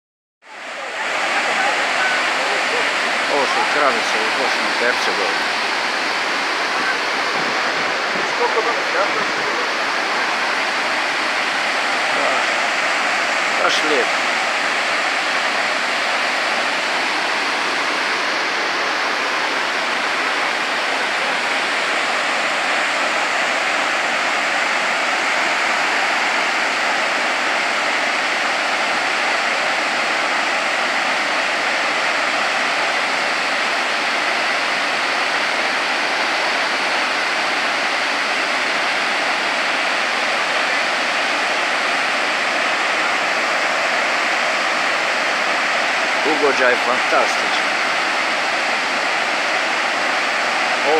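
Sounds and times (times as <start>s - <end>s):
waterfall rushing: 0.5s - 50.9s.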